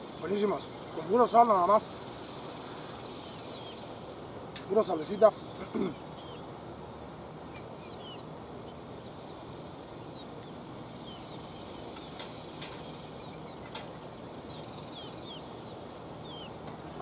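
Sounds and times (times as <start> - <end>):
faint insect buzz: 0.0 - 17.0
small birds chirping: 0.0 - 17.0.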